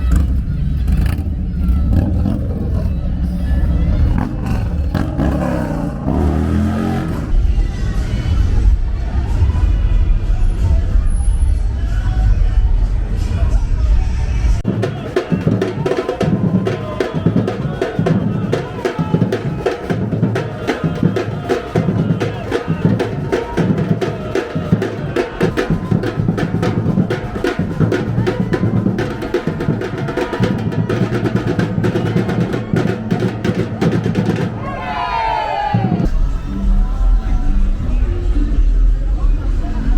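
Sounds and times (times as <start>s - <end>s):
fast drumming music: 0.0s - 8.3s, 14.6s - 35.0s, 35.6s - 39.9s.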